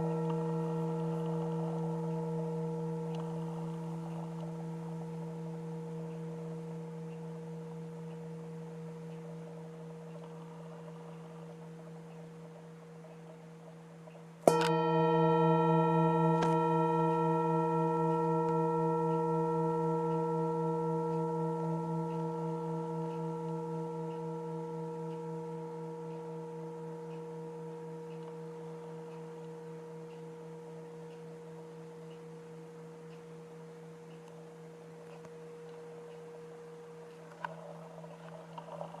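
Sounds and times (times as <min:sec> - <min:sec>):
singing bowl ringing: 0:00.0 - 0:13.0, 0:14.4 - 0:39.0.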